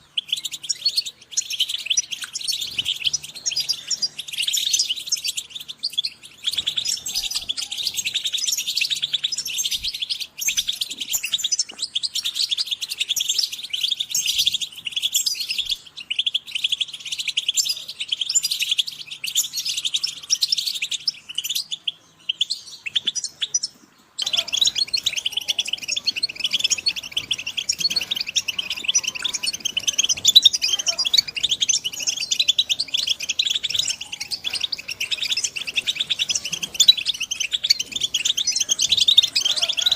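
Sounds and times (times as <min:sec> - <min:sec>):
finches twittering and chirping: 0:00.0 - 0:39.9.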